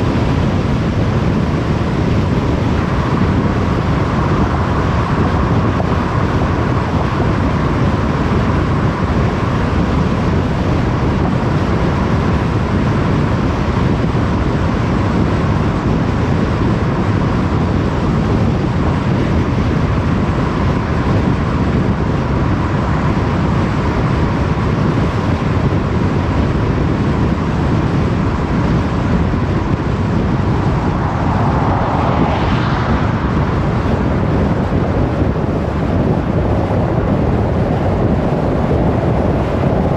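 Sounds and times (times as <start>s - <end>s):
car tyre and wind noise: 0.0s - 39.9s.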